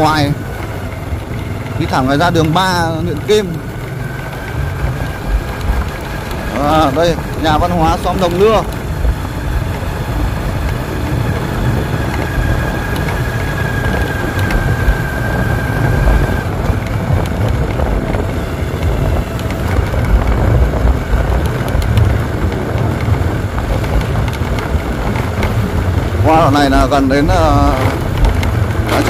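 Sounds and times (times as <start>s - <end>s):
vehicle engine low rumble: 0.0s - 29.0s.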